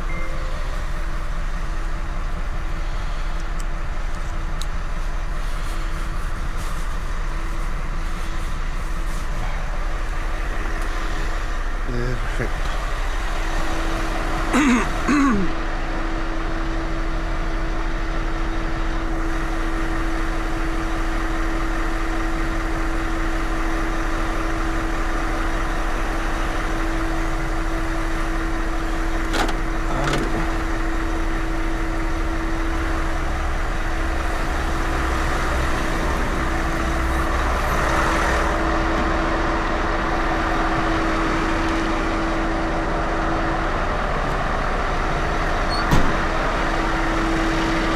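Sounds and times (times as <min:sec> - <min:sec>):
truck diesel engine idling: 0:00.0 - 0:47.9.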